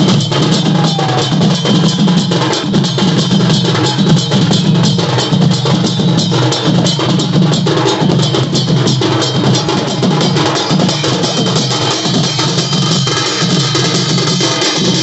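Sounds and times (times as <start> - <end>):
loud music with fast drumming: 0.0 - 15.0.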